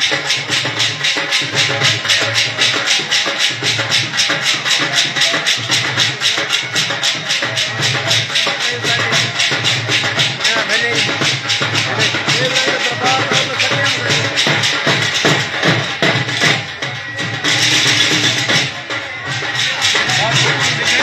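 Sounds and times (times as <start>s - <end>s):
dhol drumming: 0.0s - 21.0s.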